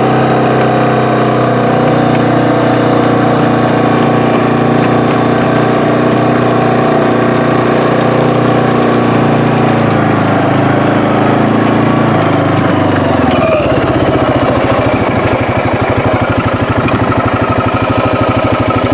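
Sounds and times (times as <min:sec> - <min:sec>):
engine running: 0:00.0 - 0:18.9.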